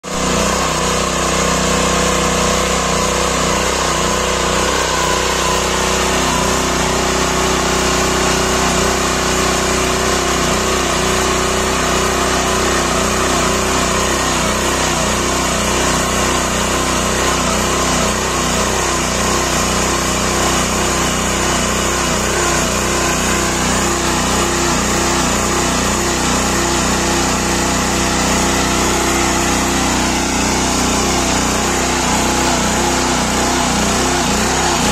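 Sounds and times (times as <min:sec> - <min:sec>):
small petrol engine running: 0:00.0 - 0:34.9
tines churning soil: 0:00.0 - 0:34.9.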